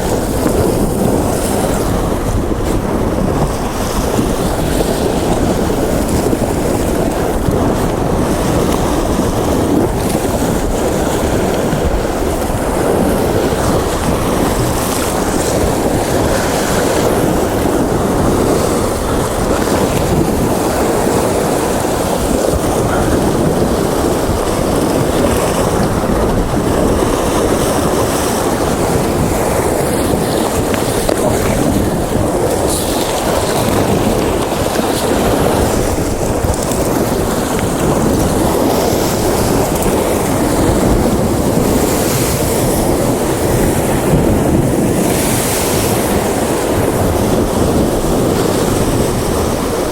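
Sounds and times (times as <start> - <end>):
waves washing against rocks: 0.0 - 49.9
wind buffeting microphone: 0.0 - 49.9.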